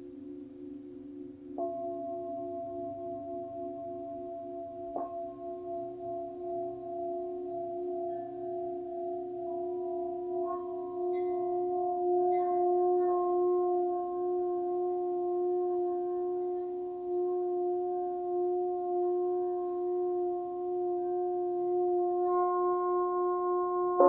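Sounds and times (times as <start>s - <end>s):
singing bowl ringing: 0.0s - 24.0s.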